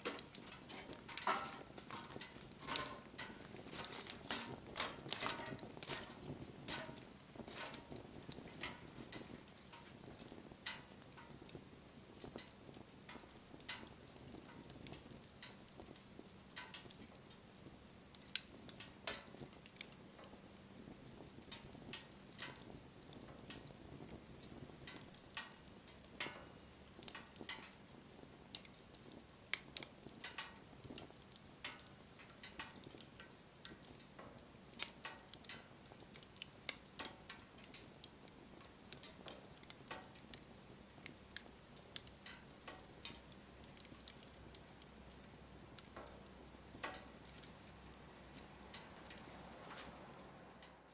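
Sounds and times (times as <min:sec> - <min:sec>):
campfire crackling and popping: 0:00.0 - 0:50.9
faint hiss of burning: 0:00.0 - 0:50.9.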